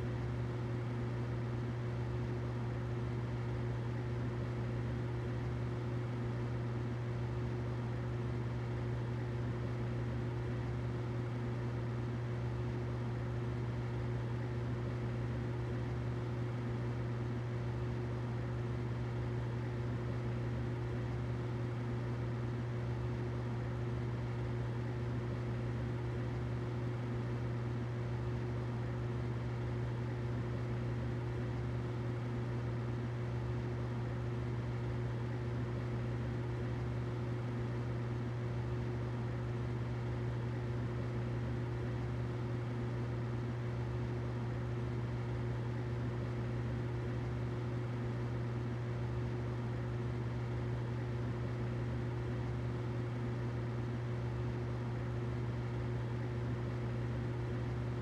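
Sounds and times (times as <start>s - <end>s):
humidifier humming and hissing: 0.0s - 58.0s.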